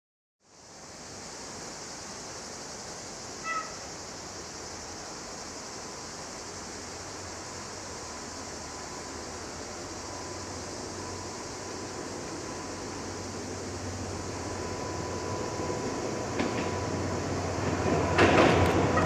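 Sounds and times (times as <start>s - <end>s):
high-pitched insect chorus: 0.4s - 19.0s.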